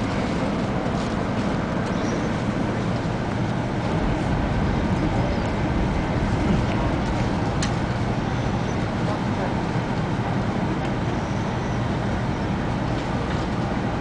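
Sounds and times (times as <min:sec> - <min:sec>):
train cabin running rumble: 0:00.0 - 0:14.0.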